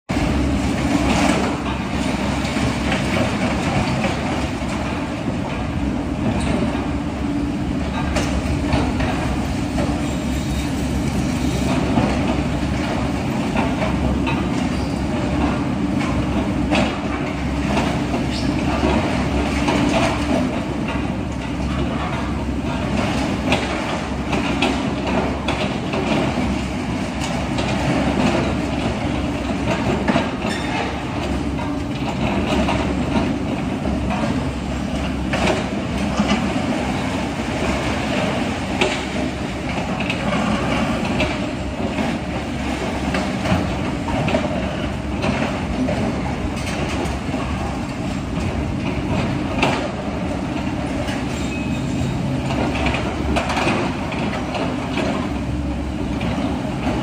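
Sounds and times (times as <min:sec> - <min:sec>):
bucket and tracks clanking: 0:00.1 - 0:57.0.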